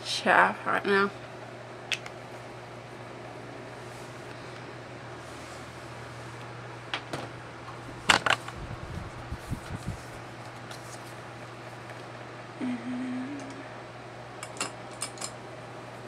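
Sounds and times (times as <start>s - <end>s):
fan running: 0.0s - 16.0s.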